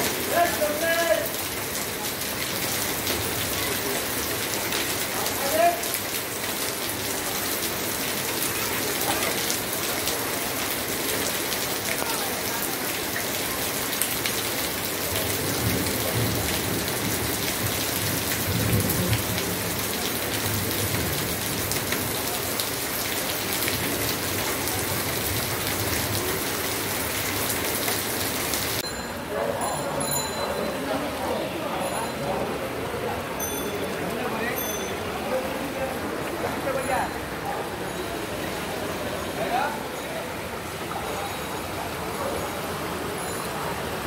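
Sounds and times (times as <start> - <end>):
rain splashing into floodwater: 0.0 - 44.0.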